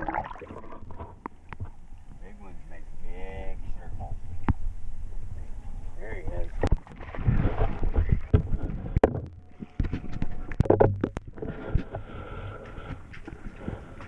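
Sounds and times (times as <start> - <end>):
low rumbling hum: 0.0 - 14.0.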